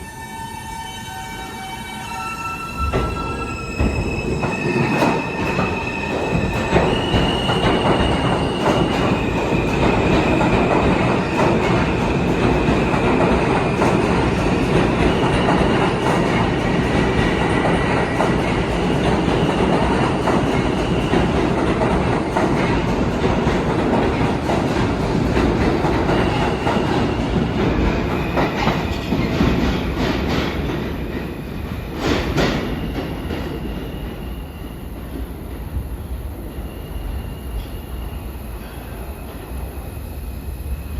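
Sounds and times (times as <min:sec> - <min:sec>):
train wheels rumbling: 0:02.2 - 0:40.9.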